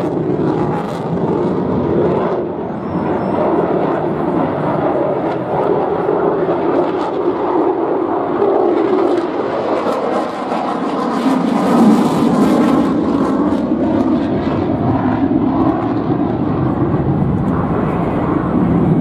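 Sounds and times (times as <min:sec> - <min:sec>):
jet engine roaring with crackle: 0:00.0 - 0:19.0.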